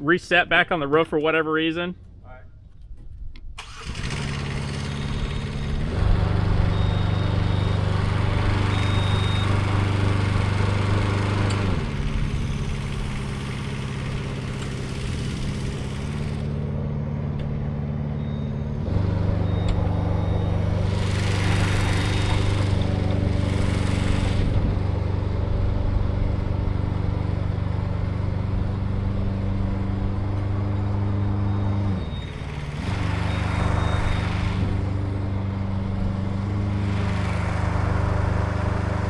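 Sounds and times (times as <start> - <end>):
aerial lift engine running: 3.6 - 39.0.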